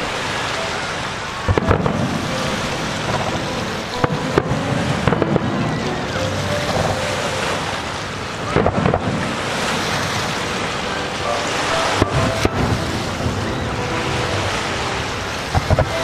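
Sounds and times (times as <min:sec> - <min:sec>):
steady rushing noise: 0:00.0 - 0:16.0
fireworks bangs: 0:01.5 - 0:10.6, 0:11.3 - 0:16.0.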